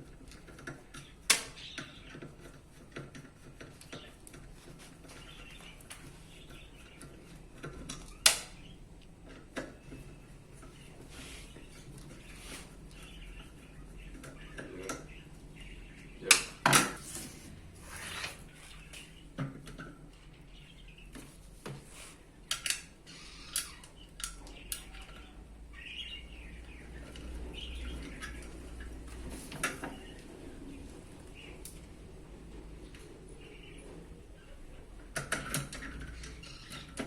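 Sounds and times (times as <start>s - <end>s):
fan parts clicking and knocking: 0.0s - 17.2s, 18.4s - 37.0s.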